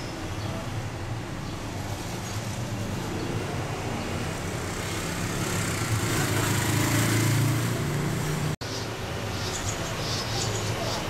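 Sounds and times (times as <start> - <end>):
road traffic rumble: 0.0 - 11.0
vehicle passing: 1.8 - 11.0.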